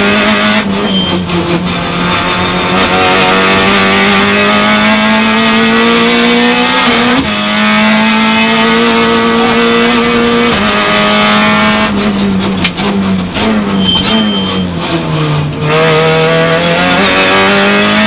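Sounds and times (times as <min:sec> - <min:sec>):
car engine at high revs: 0:00.0 - 0:18.0.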